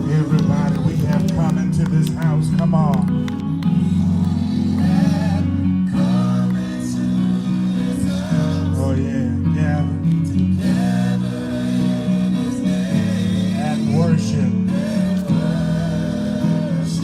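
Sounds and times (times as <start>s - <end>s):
gospel band playing: 0.0s - 17.0s.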